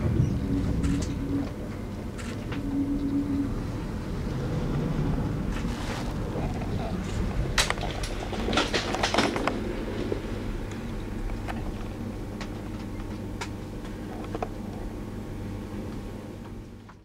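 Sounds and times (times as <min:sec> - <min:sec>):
train interior hum: 0:00.0 - 0:17.0.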